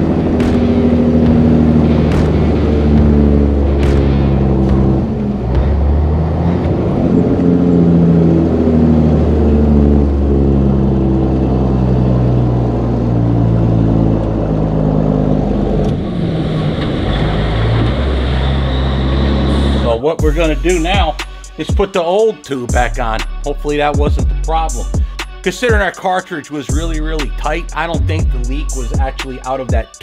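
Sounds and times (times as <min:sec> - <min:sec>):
truck diesel engine droning: 0:00.0 - 0:30.0.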